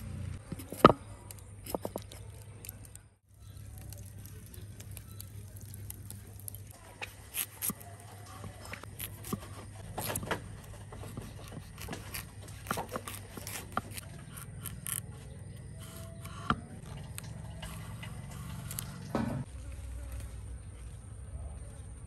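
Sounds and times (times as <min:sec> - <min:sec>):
scraping and sharp clicks: 0:00.3 - 0:19.2.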